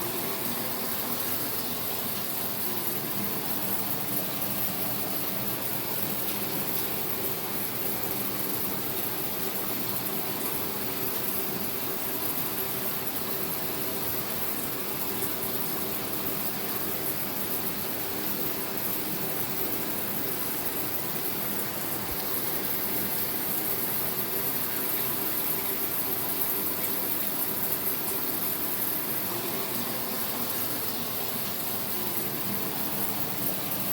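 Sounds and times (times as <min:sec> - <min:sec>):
shower running: 0:00.0 - 0:33.9.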